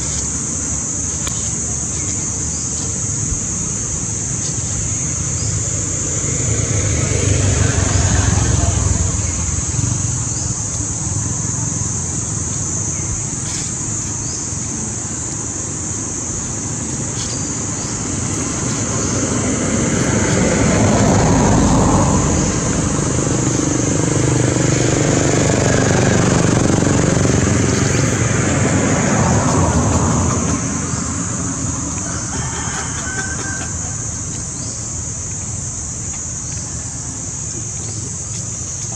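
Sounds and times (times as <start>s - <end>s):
steady high-pitched buzz: 0.0s - 32.4s
motor vehicle engine: 0.0s - 38.9s.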